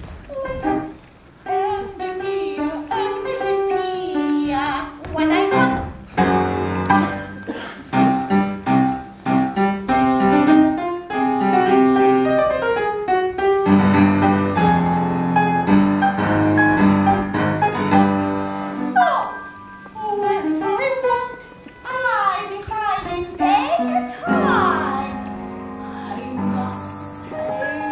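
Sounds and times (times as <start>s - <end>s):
upright piano playing: 0.0s - 27.9s.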